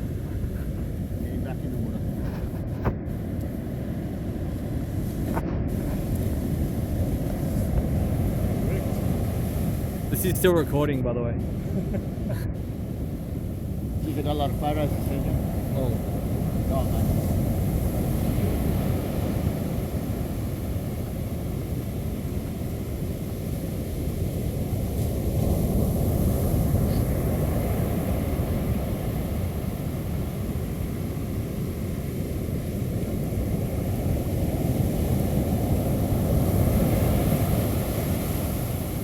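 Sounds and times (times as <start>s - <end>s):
surf washing: 0.0s - 39.0s
wind rumbling on microphone: 0.0s - 39.0s.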